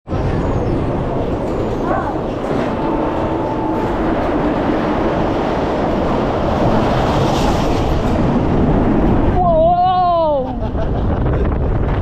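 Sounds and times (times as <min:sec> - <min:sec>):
roller coaster rumbling on track: 0:00.0 - 0:12.0.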